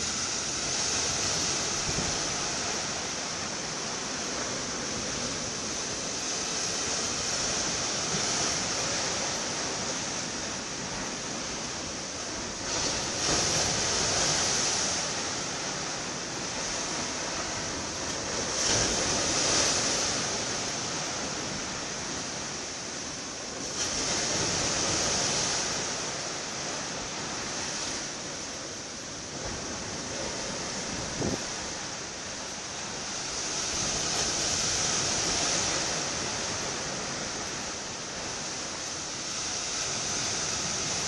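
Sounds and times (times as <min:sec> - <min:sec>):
waves breaking: 0:00.0 - 0:41.0.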